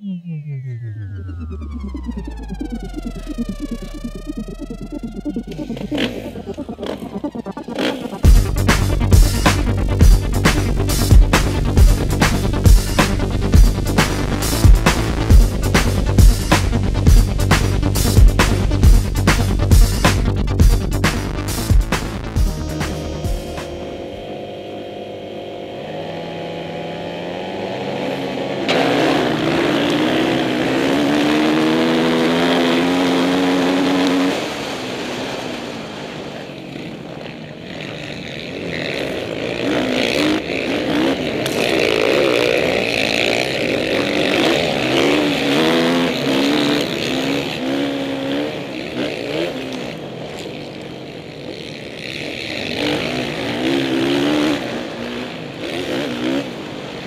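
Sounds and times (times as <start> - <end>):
dirt bike engines revving: 1.2 - 57.0.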